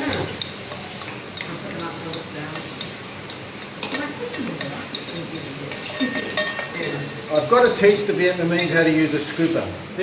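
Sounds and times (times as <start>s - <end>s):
utensil clicking against pan: 0.0s - 9.4s
food sizzling in a pan: 0.0s - 10.0s.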